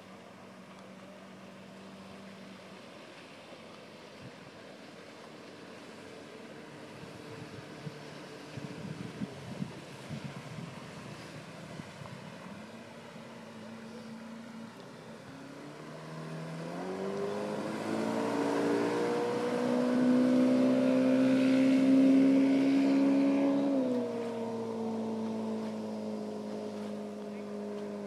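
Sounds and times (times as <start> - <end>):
outboard motor passing: 0.0 - 28.0.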